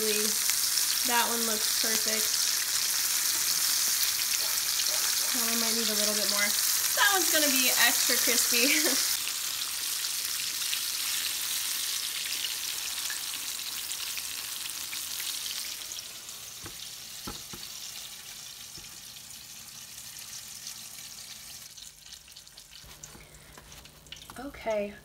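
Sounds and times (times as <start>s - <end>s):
fish deep-frying in oil: 0.0s - 24.9s.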